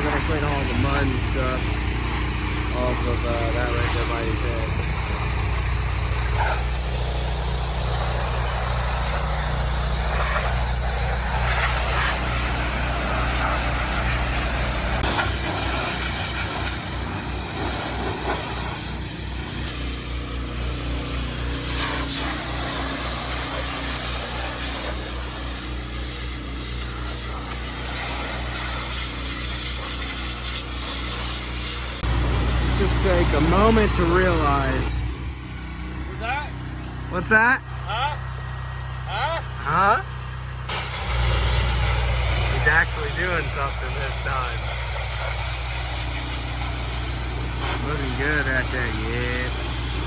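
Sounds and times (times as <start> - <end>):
pressure washer water jet hissing: 0.0 - 37.4, 39.7 - 50.0
engine hum: 0.0 - 50.0.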